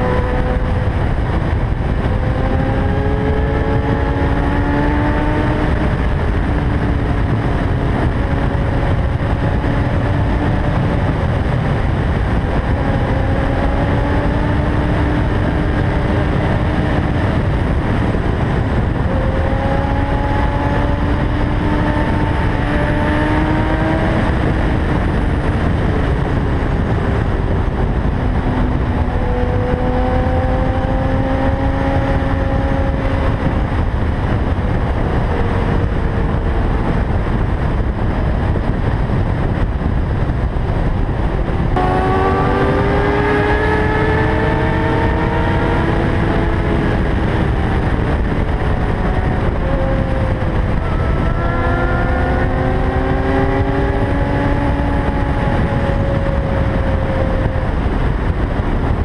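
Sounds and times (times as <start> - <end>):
heavy wind rush: 0.0 - 59.0
motorcycle engine revving: 0.0 - 59.0.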